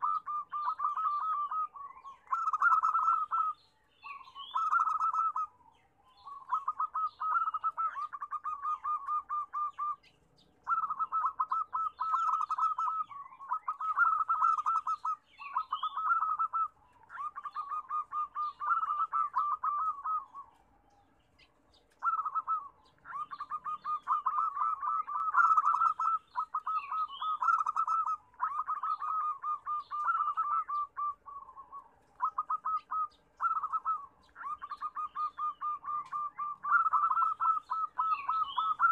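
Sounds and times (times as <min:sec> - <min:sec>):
dove cooing: 0:00.0 - 0:38.9
faint high chirps: 0:00.0 - 0:38.9.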